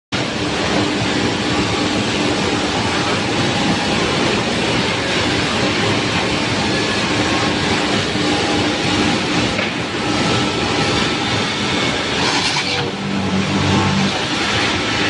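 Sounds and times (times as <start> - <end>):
woodworking machinery running: 0.2 - 15.0.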